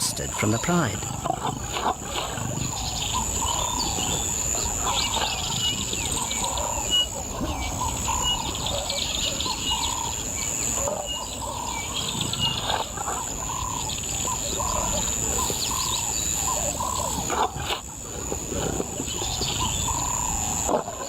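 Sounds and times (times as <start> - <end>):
birds chirping: 0.0 - 21.0
low background noise: 0.0 - 21.0.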